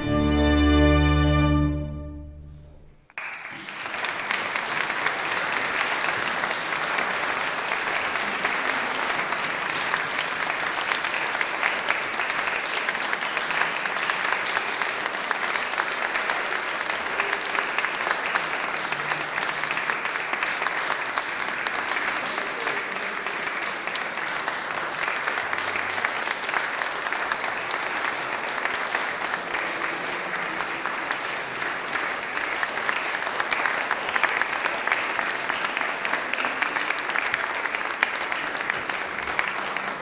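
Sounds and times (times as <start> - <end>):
audience applause: 3.0 - 40.0.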